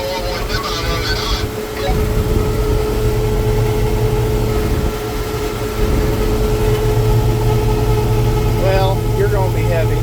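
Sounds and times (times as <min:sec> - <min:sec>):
low engine rumble: 0:00.0 - 0:10.0
mid-pitched whine: 0:00.0 - 0:10.0.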